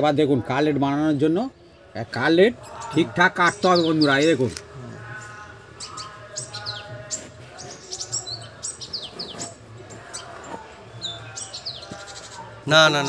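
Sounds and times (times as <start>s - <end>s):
small birds chirping: 0.7s - 13.0s.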